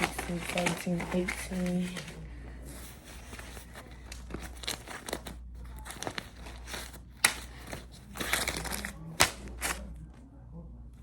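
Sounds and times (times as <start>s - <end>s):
banknotes being counted by hand: 0.0s - 2.2s, 2.8s - 9.8s.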